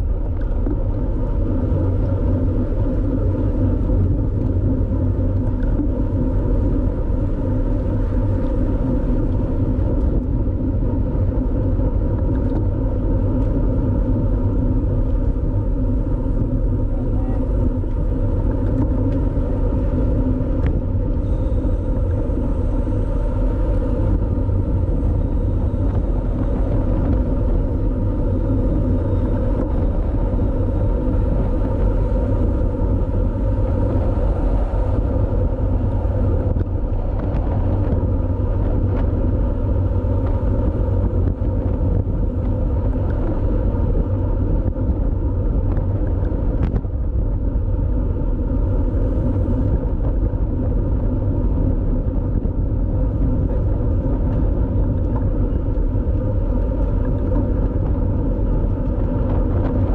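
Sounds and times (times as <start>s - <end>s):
bicycle road noise: 0.0s - 59.9s
wind rumble: 0.0s - 59.9s.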